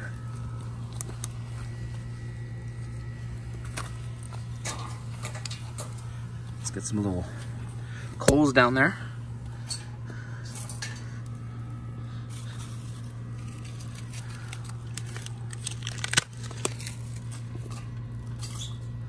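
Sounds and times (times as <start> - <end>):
steady low hum: 0.0 - 19.0
twigs crackling in a stove: 0.0 - 19.0.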